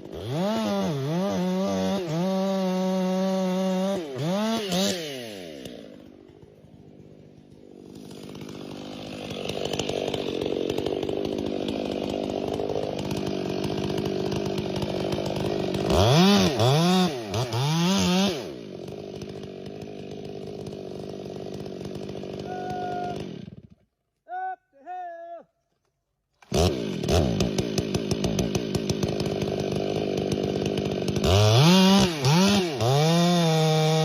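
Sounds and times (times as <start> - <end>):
chainsaw engine running and revving: 0.0 - 23.8, 26.4 - 34.0.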